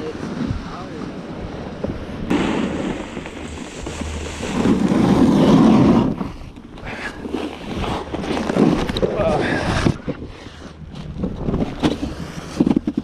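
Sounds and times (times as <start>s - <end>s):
snowboard scraping over snow: 0.0s - 13.0s
wind buffeting microphone: 0.0s - 13.0s.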